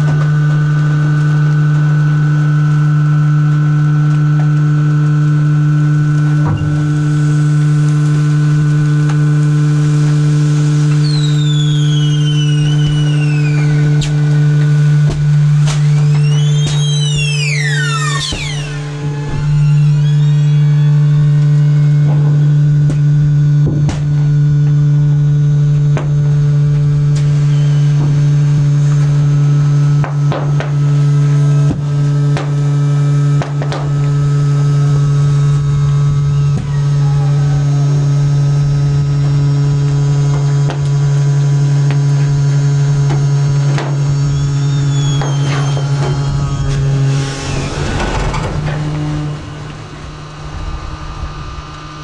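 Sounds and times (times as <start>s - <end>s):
hydraulic drive humming: 0.0s - 52.0s.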